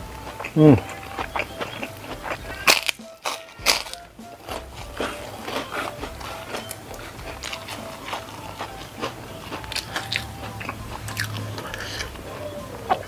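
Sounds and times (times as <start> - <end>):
chewing crunchy crackers: 0.0 - 13.0
wet mouth clicks: 0.3 - 13.0.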